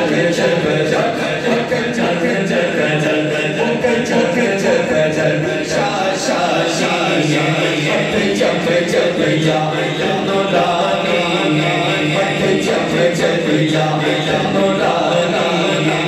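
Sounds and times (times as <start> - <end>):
man chanting over loudspeaker: 0.0 - 16.0.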